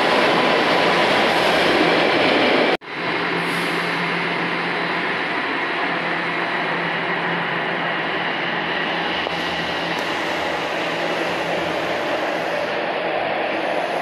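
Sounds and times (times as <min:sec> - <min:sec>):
subway train running on track: 0:00.0 - 0:14.0.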